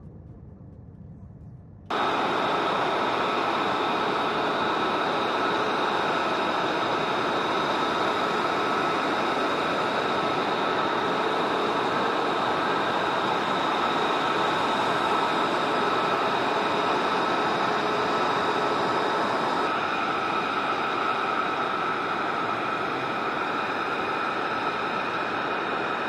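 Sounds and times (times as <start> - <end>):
high whine: 0.0 - 26.0
jet engines rushing: 1.9 - 26.0.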